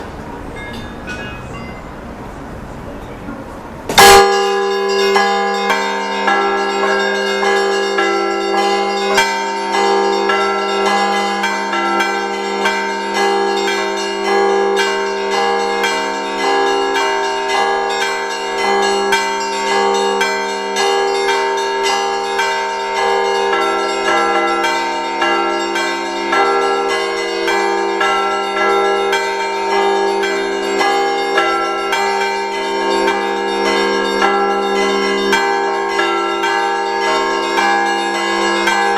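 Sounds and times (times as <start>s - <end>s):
church bells ringing: 0.0s - 38.9s
low hum of large bells: 0.0s - 38.9s.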